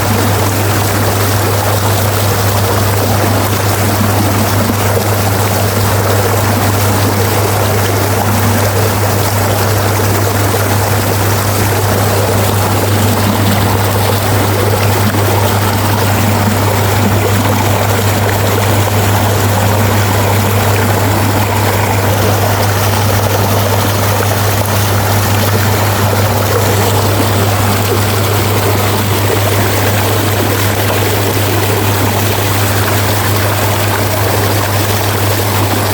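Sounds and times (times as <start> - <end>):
water rushing: 0.0 - 35.9
low hum: 0.1 - 35.8.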